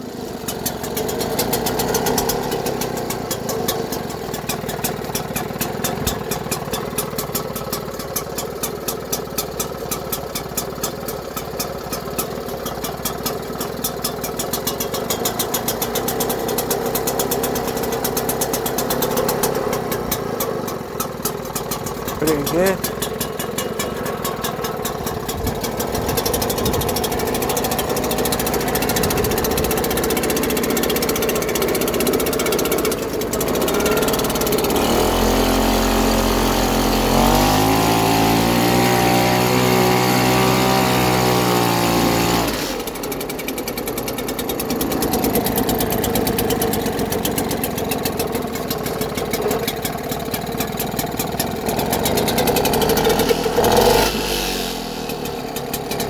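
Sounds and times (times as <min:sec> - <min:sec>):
outboard engine running: 0:00.0 - 0:56.0.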